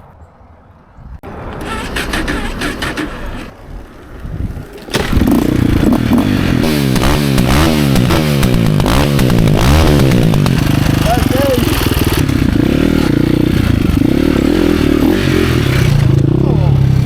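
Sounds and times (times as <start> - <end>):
motorcycle engine revving: 1.5 - 17.0.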